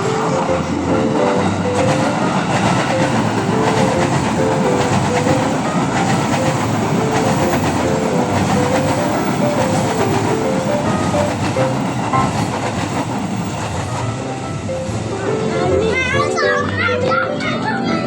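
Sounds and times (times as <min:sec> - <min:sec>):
train wheels clattering: 0:00.0 - 0:15.1.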